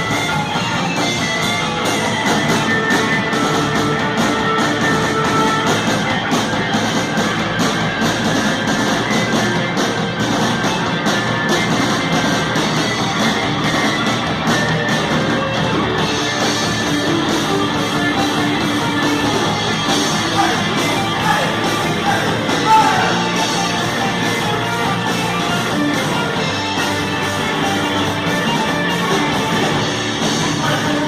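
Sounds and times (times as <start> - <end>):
heavy metal band playing live: 0.0 - 31.0.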